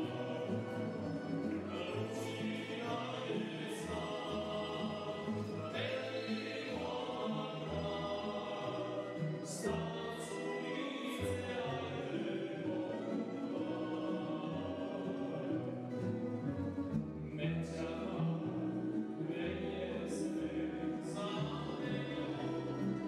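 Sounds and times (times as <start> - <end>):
man singing: 0.0 - 15.6, 17.3 - 23.0
string bass: 0.0 - 23.0.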